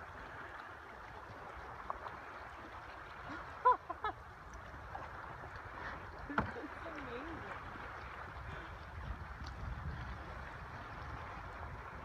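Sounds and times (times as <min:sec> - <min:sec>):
water lapping around a canoe: 0:00.0 - 0:12.0.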